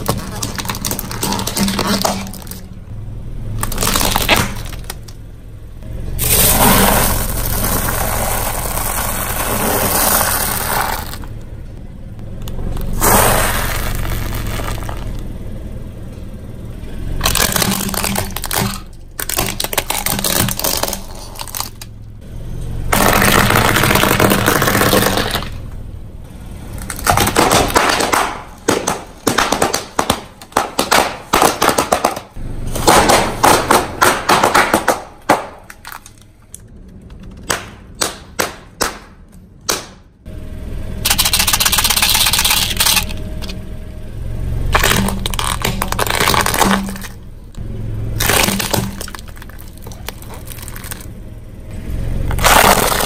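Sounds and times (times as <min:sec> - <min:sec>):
objects crunching under car tyre: 0:00.0 - 0:05.3, 0:06.2 - 0:15.4, 0:16.8 - 0:22.2, 0:22.9 - 0:40.0, 0:44.6 - 0:53.0.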